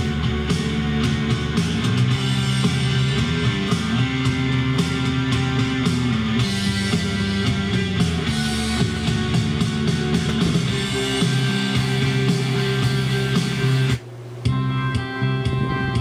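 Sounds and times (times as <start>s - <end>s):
rock music from small speakers: 0.0s - 16.0s.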